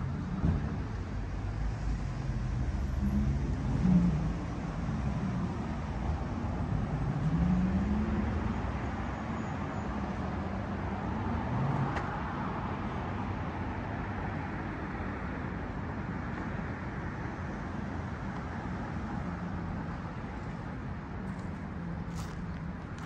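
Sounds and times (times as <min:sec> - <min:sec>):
passing cars hum: 0:00.0 - 0:23.0.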